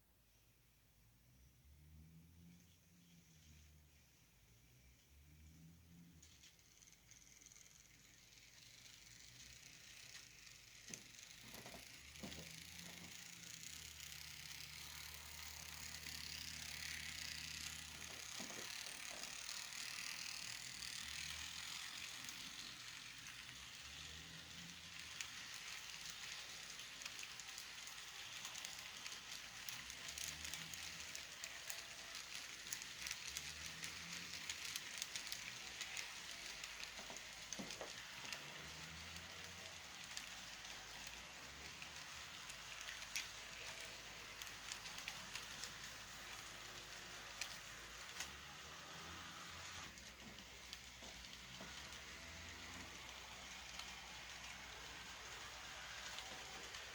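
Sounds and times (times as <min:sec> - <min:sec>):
model train wheels rattling on rails: 0:02.5 - 0:56.9.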